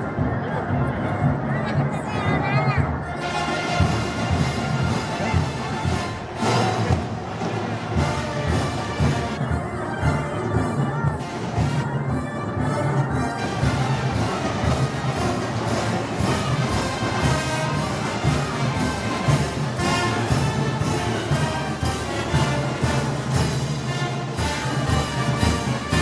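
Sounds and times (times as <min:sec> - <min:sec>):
brass band playing: 0:03.0 - 0:26.0.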